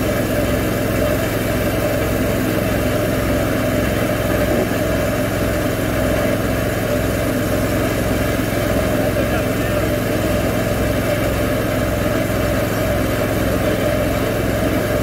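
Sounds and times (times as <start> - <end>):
sawmill engine running: 0.0 - 15.0.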